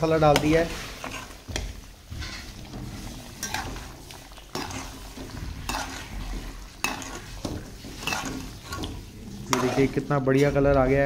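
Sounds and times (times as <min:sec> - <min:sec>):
metal spoon scraping a pan: 0:00.1 - 0:11.0.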